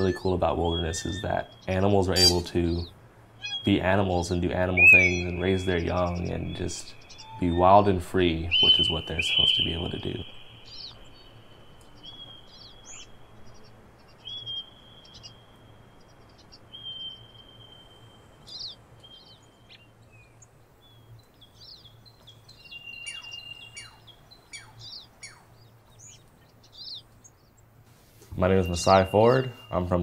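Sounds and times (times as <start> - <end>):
birds singing: 0.0 - 30.0.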